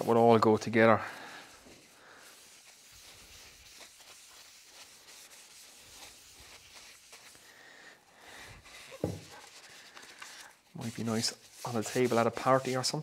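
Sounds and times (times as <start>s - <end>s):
cloth rubbing on wood: 0.0s - 7.4s, 8.3s - 13.0s.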